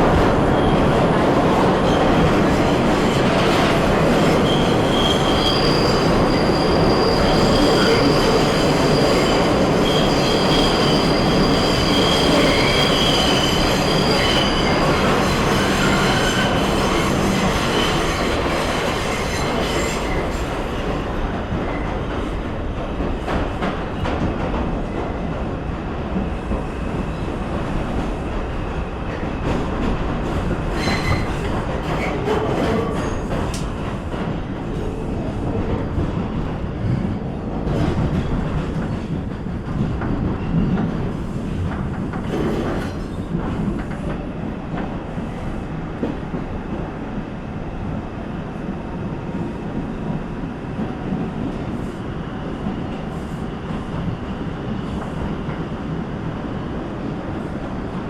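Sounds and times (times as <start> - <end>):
train clattering over track: 0.0 - 46.9
subway train wheels rumbling: 0.0 - 58.0.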